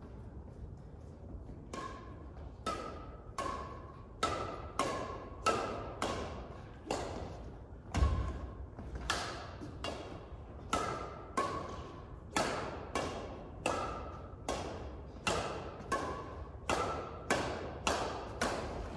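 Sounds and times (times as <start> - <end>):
racket hitting shuttlecock: 1.0 - 18.9.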